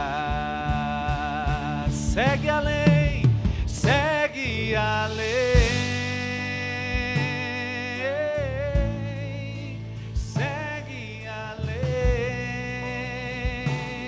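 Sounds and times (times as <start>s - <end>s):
low beats: 0.0s - 14.0s
sustained accompaniment: 0.0s - 14.0s.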